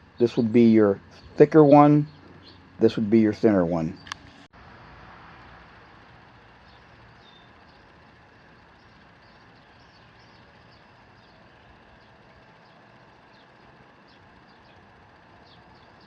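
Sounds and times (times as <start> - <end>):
small birds chirping: 0.0 - 4.4, 5.8 - 16.0.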